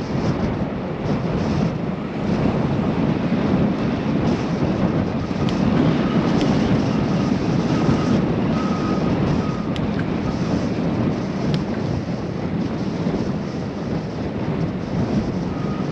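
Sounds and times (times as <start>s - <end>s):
wind rushing over microphone: 0.0s - 15.9s.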